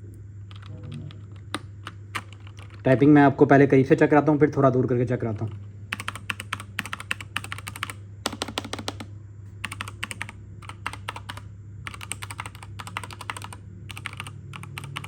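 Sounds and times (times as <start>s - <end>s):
mechanical keyboard typing: 0.5s - 3.1s, 5.3s - 15.0s.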